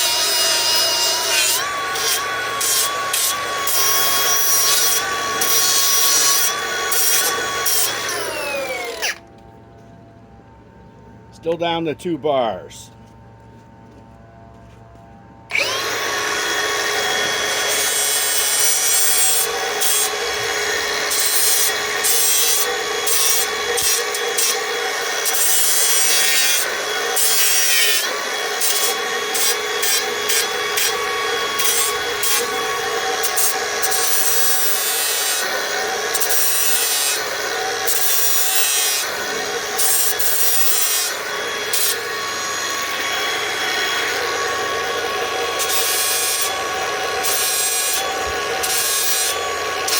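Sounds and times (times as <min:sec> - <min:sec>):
angle grinder grinding metal: 0:00.0 - 0:09.2, 0:15.5 - 0:49.9.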